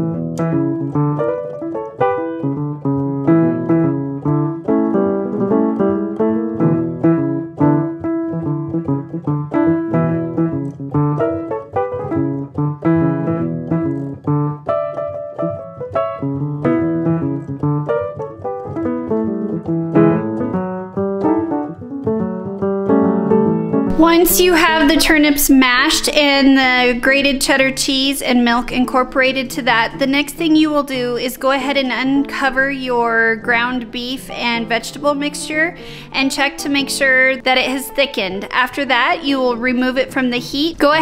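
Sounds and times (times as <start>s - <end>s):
background piano music: 0.0s - 41.0s.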